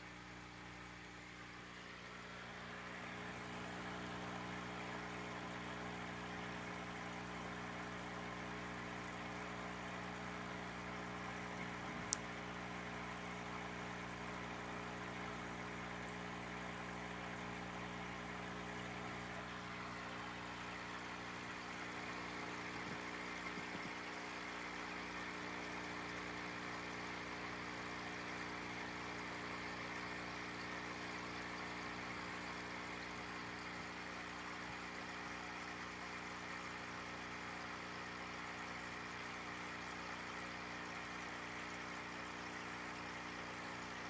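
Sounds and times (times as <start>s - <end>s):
aquarium pump humming: 0.0s - 44.0s.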